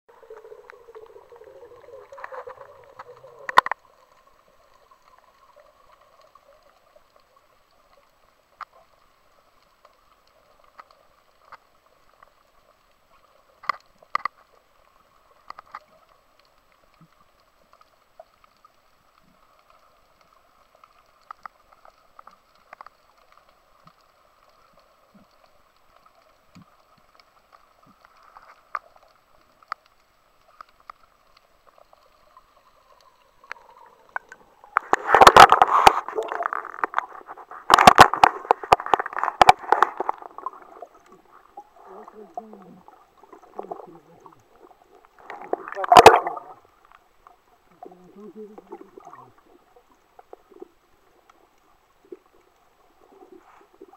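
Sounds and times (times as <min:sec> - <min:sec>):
water rushing and gurgling: 0:00.1 - 0:53.9.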